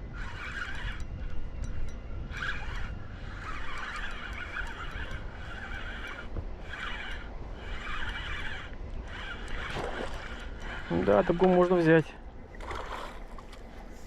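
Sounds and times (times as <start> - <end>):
wind and water rumble: 0.0 - 14.0.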